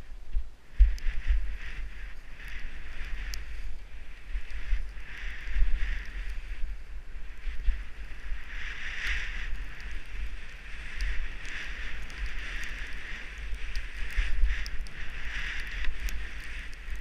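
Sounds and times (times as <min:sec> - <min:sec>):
wind buffeting microphone: 0:00.0 - 0:17.0
skis hissing through snow: 0:00.8 - 0:17.0.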